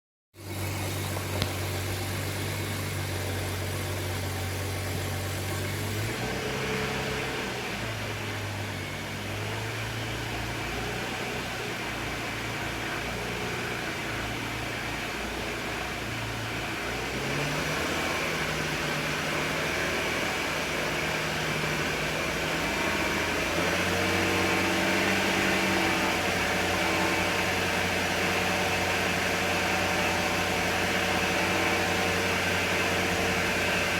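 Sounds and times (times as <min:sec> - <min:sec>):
car engine running at low rpm: 0:00.4 - 0:33.9.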